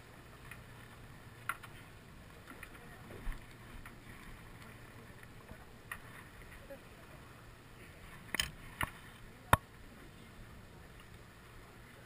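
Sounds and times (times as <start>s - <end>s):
low steady hum: 0.0s - 12.0s
wind and water wash: 0.0s - 12.0s.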